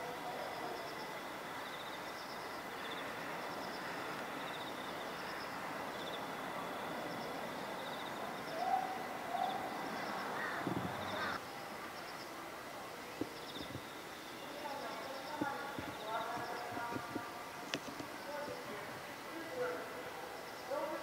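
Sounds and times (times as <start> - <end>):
insects chirping in trills: 0.0 - 21.0.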